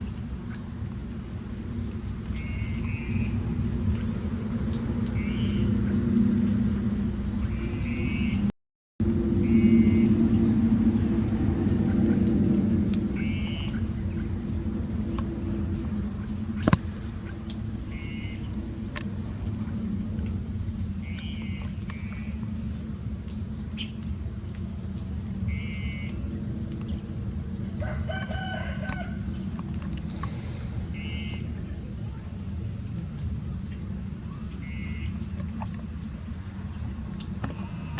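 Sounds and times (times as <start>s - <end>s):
steady low hum: 0.0s - 37.9s
birds calling: 0.5s - 8.5s, 9.1s - 37.9s.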